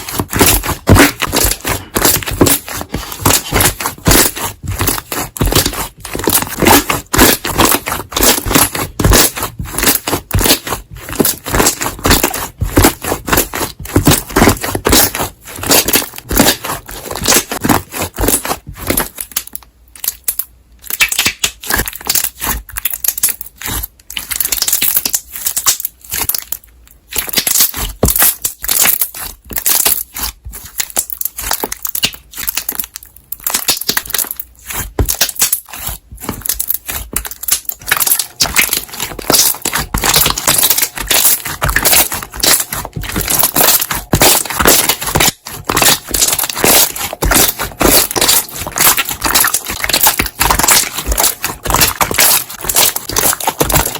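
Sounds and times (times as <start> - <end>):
slime being squeezed: 0.0 - 53.9.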